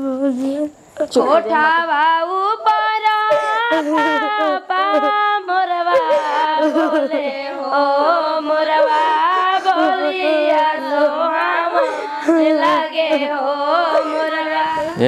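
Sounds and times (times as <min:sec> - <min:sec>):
women singing folk song: 0:00.0 - 0:15.0.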